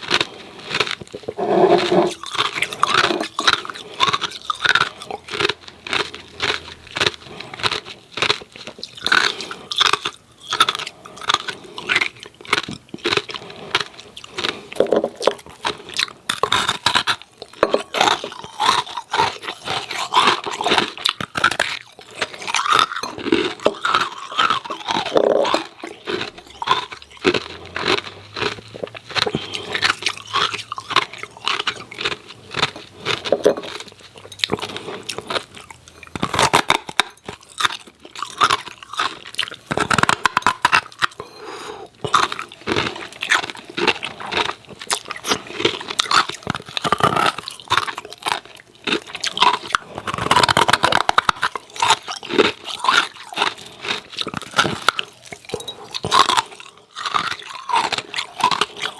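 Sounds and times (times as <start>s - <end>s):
ice cubes being chewed: 0.0s - 58.9s.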